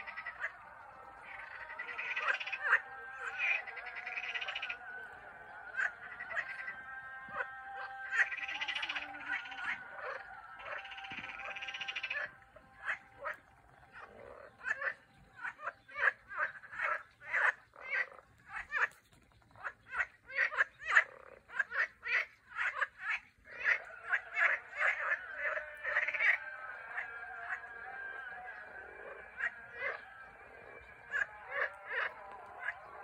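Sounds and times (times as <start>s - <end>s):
frogs croaking: 0.0s - 33.0s.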